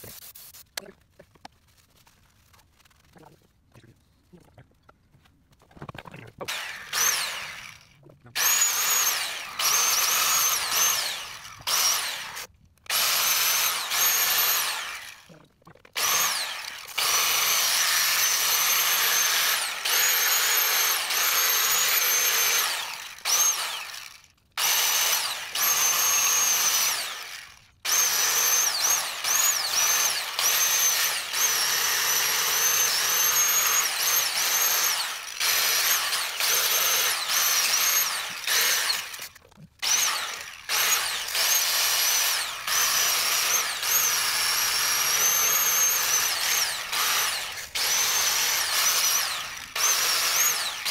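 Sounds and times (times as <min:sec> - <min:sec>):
power tool wire wheel whining: 0:06.5 - 0:50.9.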